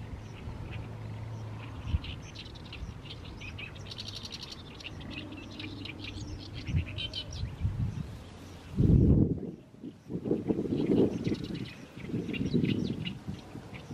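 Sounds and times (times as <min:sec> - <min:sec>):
reed warbler chattering song: 0:00.0 - 0:13.9.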